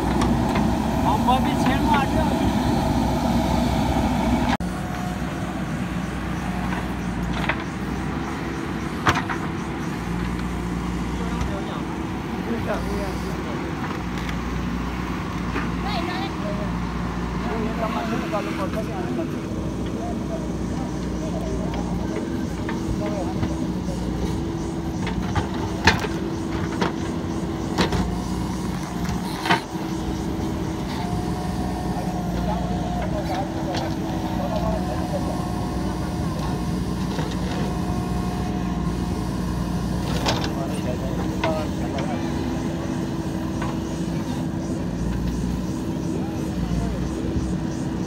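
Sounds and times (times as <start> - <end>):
backhoe diesel engine running: 0.0 - 48.0.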